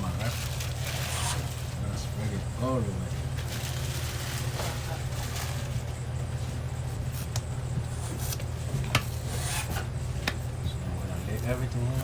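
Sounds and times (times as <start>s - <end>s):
low hum of kitchen equipment: 0.0s - 12.0s.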